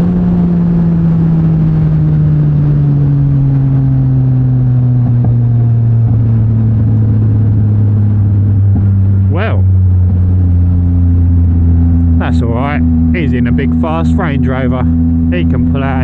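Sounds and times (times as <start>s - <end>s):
motorcycle engine decelerating: 0.0s - 16.0s.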